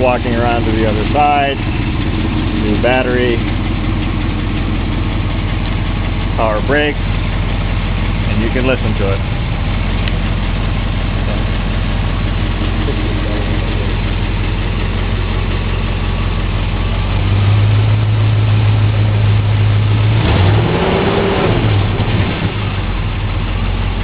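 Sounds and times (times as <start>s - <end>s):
v-eight engine idling: 0.0s - 24.0s.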